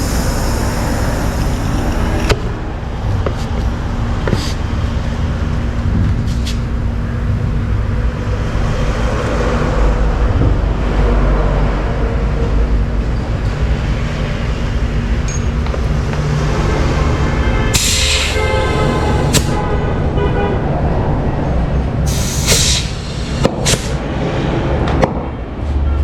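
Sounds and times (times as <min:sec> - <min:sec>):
constant hum: 0:00.0 - 0:26.0
road traffic rumble: 0:00.0 - 0:26.0.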